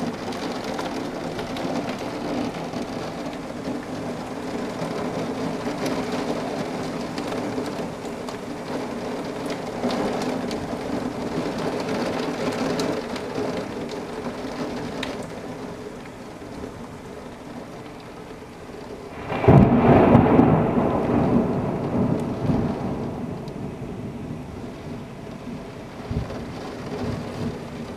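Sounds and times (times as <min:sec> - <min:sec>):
thunder clap and rumble: 0:00.0 - 0:15.2, 0:19.1 - 0:27.9
heavy rain falling: 0:00.0 - 0:27.9.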